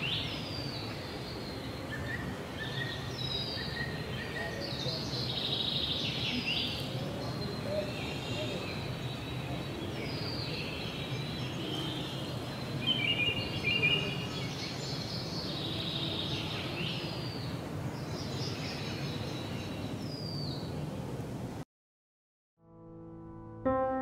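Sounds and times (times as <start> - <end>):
birds calling: 0.0 - 20.8
outdoor background hiss: 0.0 - 21.6.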